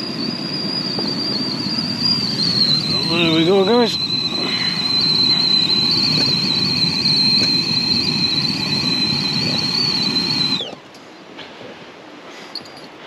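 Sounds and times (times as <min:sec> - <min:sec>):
kettle whistling: 0:00.0 - 0:10.9
stove rushing hiss: 0:00.0 - 0:11.0.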